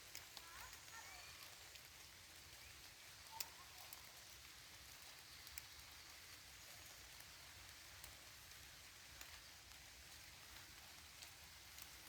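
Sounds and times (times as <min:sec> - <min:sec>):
faint steady rain: 0:00.0 - 0:12.0.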